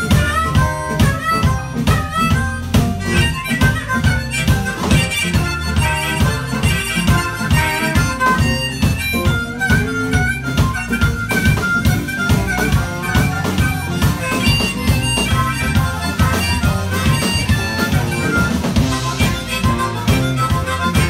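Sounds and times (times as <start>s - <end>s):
amplified harmonica: 0.0s - 21.0s
drums keeping a steady beat: 0.0s - 21.0s
electric guitar: 0.0s - 21.0s.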